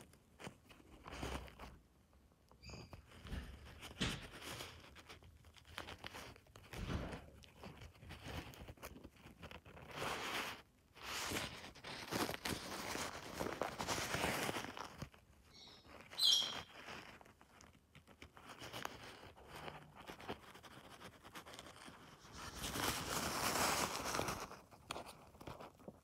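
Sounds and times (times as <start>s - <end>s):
small clicks and rubs: 0.0s - 26.0s
paper towel rustling and crinkling: 2.9s - 26.0s.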